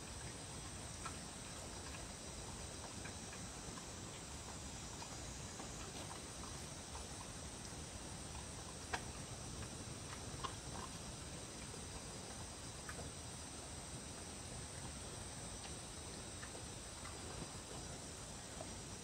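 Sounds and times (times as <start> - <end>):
steady hiss: 0.0 - 19.0
dog licking and eating: 0.3 - 19.0.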